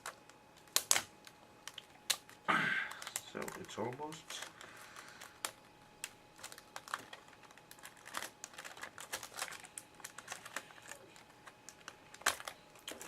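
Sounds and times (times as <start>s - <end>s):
tape peeling and crinkling: 0.0s - 13.0s.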